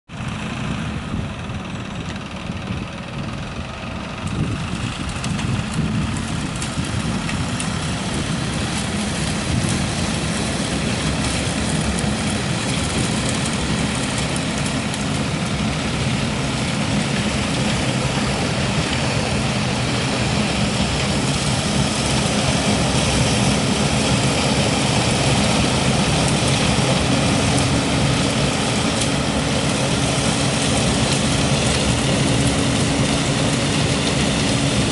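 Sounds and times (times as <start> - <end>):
tractor engine drone: 0.1 - 34.9.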